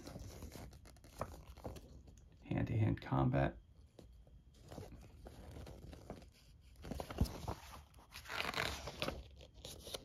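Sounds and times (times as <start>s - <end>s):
paper pages turning and rustling: 0.0s - 2.2s, 3.9s - 10.0s.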